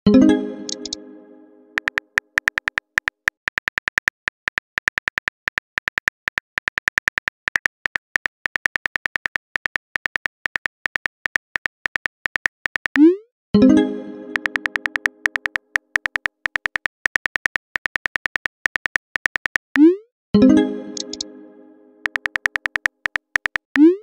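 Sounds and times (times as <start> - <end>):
phone keyboard typing clicks: 0.7 - 1.0, 1.8 - 13.1, 14.3 - 19.9, 21.0 - 21.2, 22.0 - 24.0.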